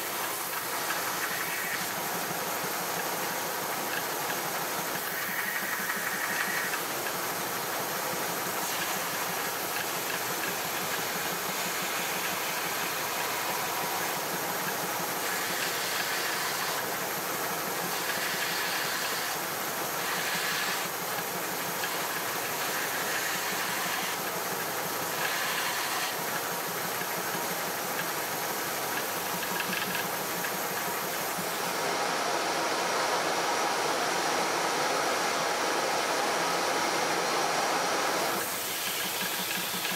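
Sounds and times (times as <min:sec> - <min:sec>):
woodworking power tool running: 0:00.0 - 0:39.9.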